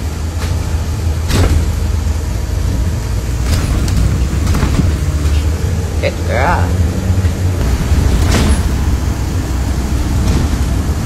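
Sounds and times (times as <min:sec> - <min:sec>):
bus rumbling inside cabin: 0:00.0 - 0:11.0.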